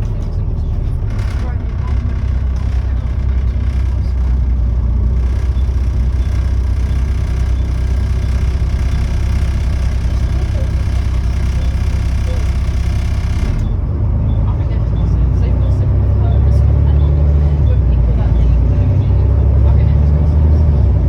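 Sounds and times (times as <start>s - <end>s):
diesel bus engine droning: 0.0s - 21.0s.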